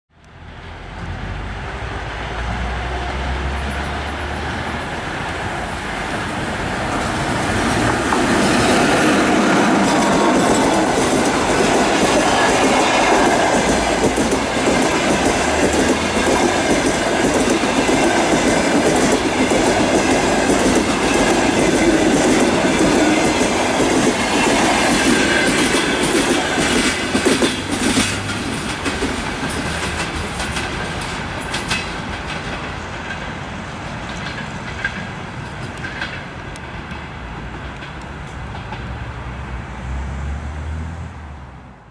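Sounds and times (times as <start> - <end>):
train wheels rumbling on rails: 0.3 - 40.8
wheels clacking over rail joints: 2.5 - 39.4.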